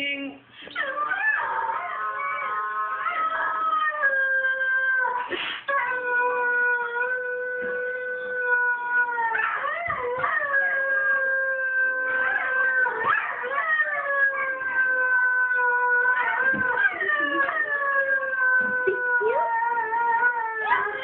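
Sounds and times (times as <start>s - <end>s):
dogs howling through speakers: 0.8s - 21.0s.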